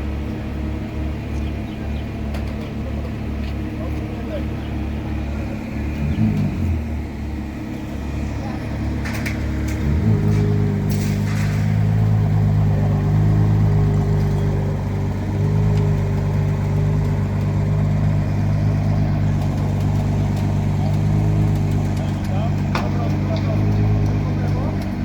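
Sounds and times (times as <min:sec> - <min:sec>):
car engine running steadily: 0:00.0 - 0:25.0.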